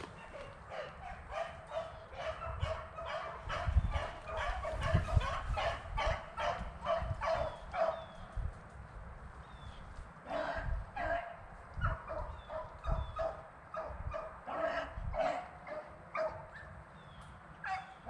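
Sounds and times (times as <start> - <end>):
dogs baying: 0.0 - 8.1, 10.2 - 16.7, 17.6 - 18.0.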